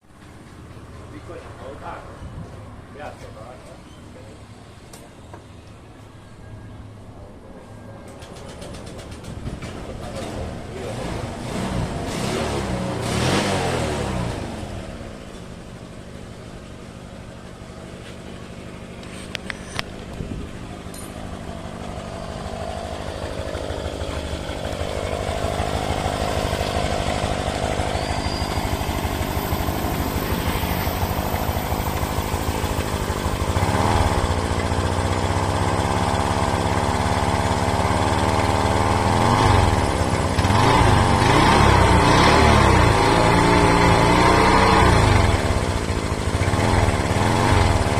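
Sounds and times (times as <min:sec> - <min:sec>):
scooter engine idling and revving: 0:06.4 - 0:47.9.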